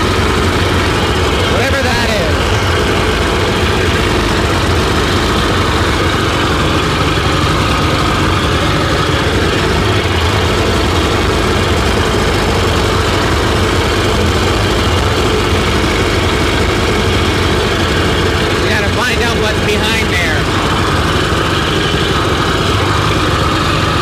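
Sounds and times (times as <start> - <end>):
two-stroke engine idling: 0.0 - 24.0.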